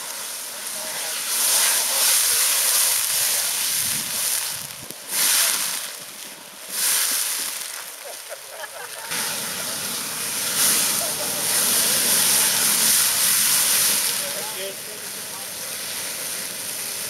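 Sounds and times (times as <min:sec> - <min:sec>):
fire extinguisher spraying hiss: 0:00.0 - 0:17.0.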